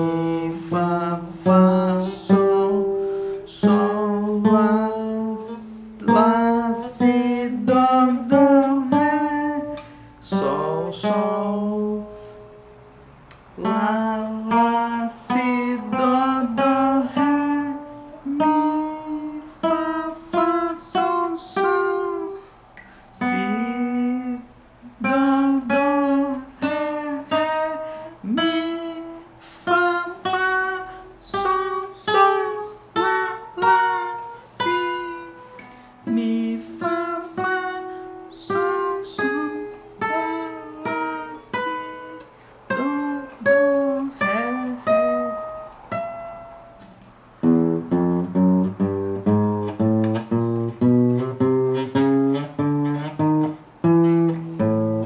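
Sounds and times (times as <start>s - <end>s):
acoustic guitar plucked notes: 0.0s - 55.0s.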